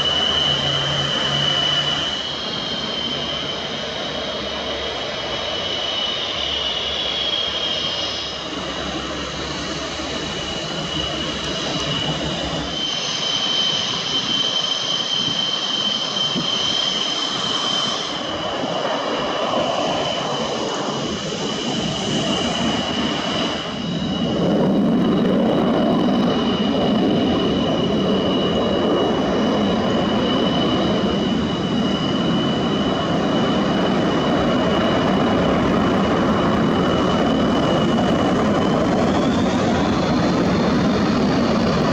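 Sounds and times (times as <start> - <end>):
jet engines whining and roaring: 0.0 - 41.9.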